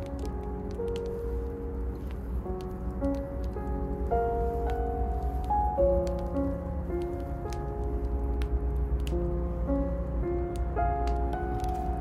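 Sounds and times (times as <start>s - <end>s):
faint clicks: 0.0s - 12.0s
slow held music notes: 0.0s - 12.0s.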